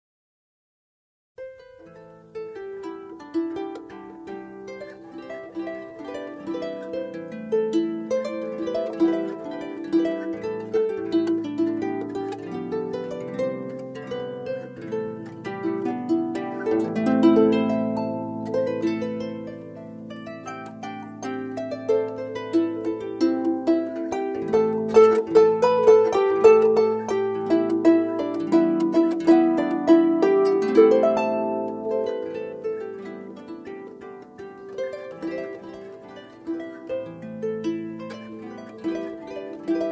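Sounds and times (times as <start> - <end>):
harp-like plucked string melody: 1.4 - 39.9.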